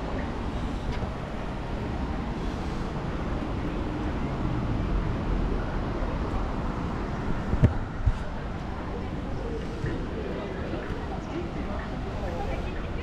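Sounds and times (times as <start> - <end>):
continuous low rumble: 0.0 - 13.0
faint distant voices: 0.0 - 13.0.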